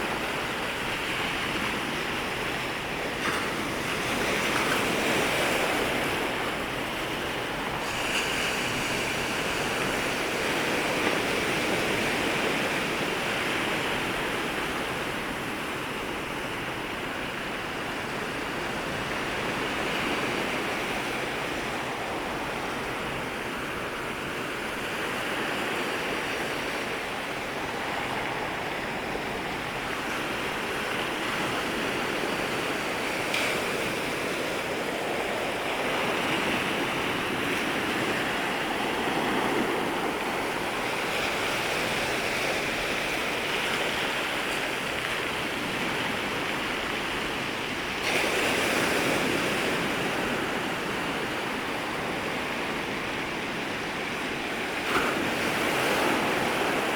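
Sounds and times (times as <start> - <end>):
waves breaking: 0.0 - 56.9.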